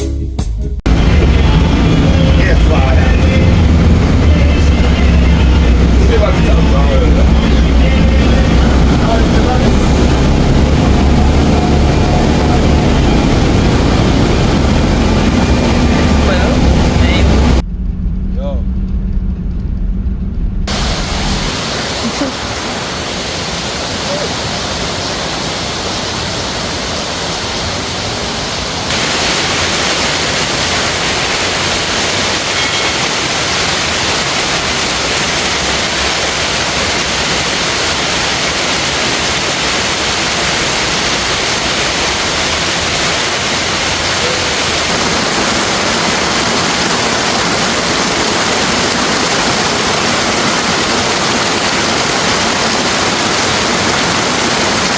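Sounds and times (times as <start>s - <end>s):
waterfall rushing: 0.9s - 17.6s, 20.7s - 54.9s.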